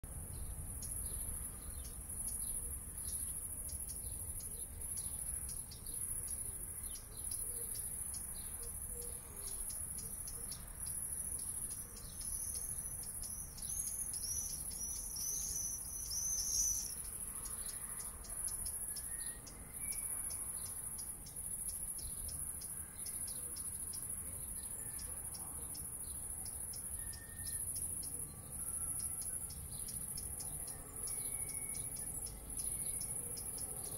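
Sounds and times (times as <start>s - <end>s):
bird singing: 0.1s - 33.9s
crickets chirring: 0.1s - 33.9s.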